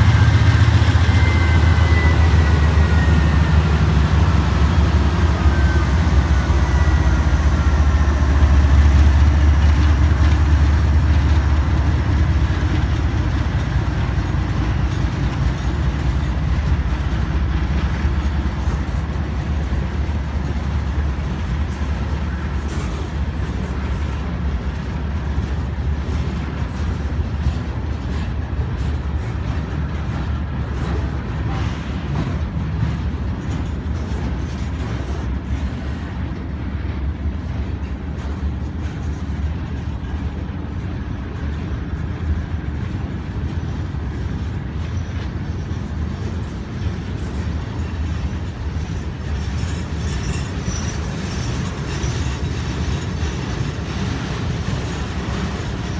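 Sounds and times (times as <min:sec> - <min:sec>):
freight train rolling past: 0:00.0 - 0:55.9.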